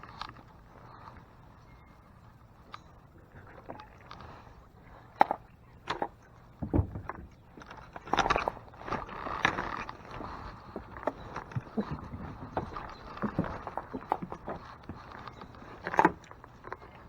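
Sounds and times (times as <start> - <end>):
gear knocking and scraping in boat: 0.0 - 17.0.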